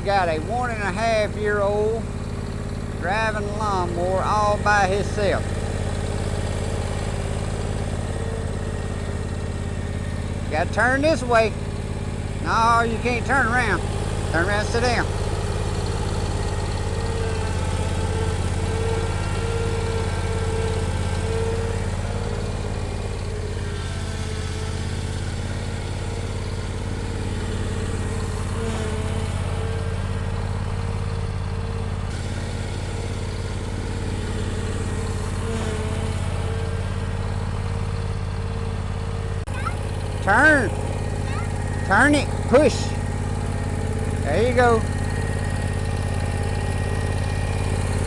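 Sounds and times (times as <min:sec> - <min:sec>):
lawnmower engine humming: 0:00.0 - 0:48.0.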